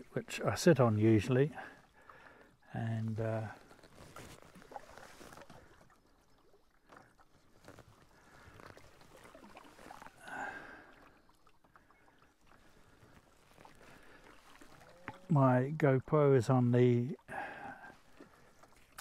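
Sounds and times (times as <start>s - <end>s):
canoe paddle dipping in water: 0.9s - 16.2s, 16.9s - 19.0s.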